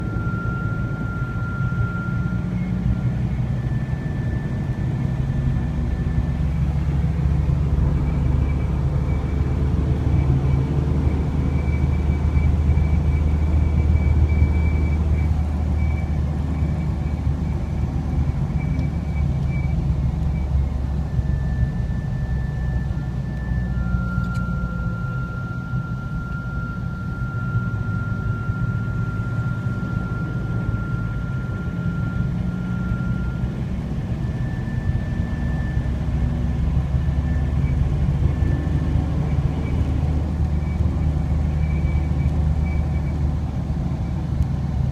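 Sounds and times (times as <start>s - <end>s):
light bar whistling in airflow: 0.0s - 44.8s
road and engine rumble: 0.0s - 44.9s.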